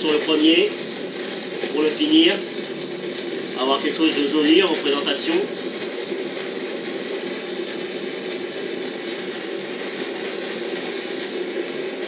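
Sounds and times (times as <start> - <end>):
blowtorch hissing: 0.0 - 12.0.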